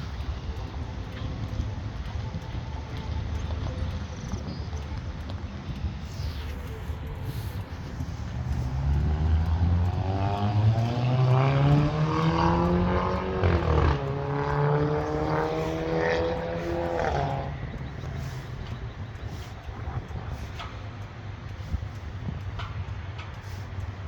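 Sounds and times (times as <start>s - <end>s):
engine passing by: 0.0s - 24.0s.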